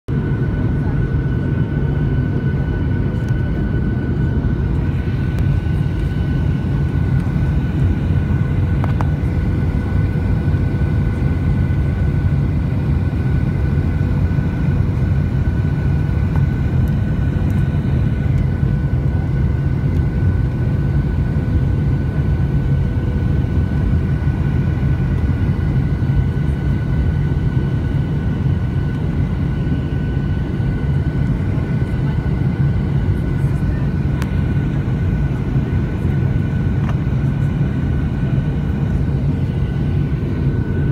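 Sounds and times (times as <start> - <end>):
engine and airflow rumble: 0.1 - 40.9.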